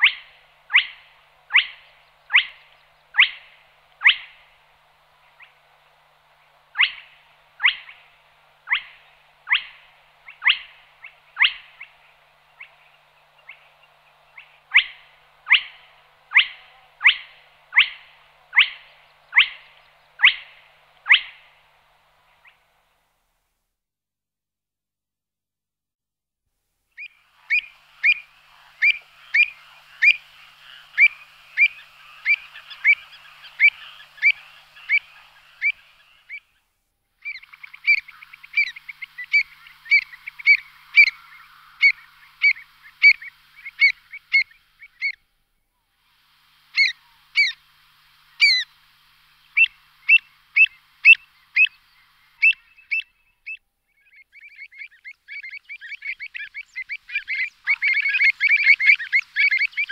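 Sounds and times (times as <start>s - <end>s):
small bird chirping: 0.0s - 5.6s, 6.5s - 21.6s, 27.0s - 45.3s, 46.6s - 48.8s, 49.4s - 59.9s.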